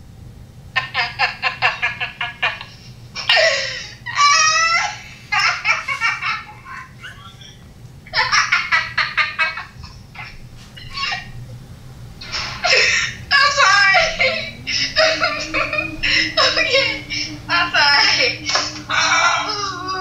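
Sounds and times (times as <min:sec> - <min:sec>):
woman laughing hard: 0:00.8 - 0:07.5, 0:08.1 - 0:11.4, 0:12.2 - 0:20.0.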